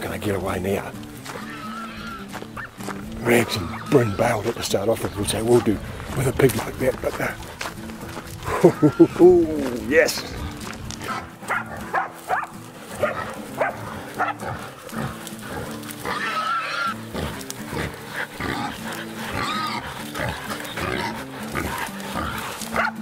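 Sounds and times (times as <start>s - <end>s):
background music: 0.0s - 23.0s
wild boar squealing and grunting: 1.0s - 23.0s.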